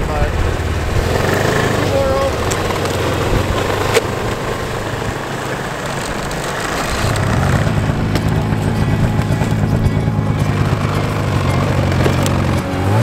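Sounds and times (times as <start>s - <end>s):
deep engine hum: 0.0s - 13.0s
snowmobile engines running: 0.0s - 13.0s.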